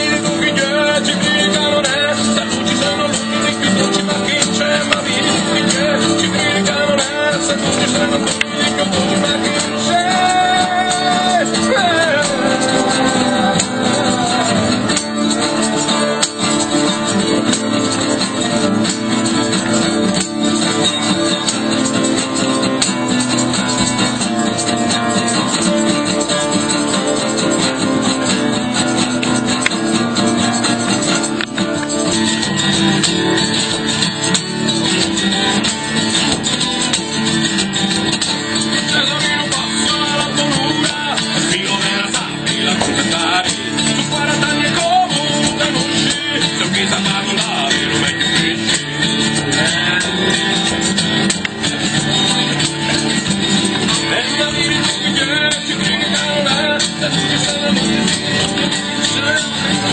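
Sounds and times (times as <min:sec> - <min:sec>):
live band playing folk music: 0:00.0 - 0:59.9.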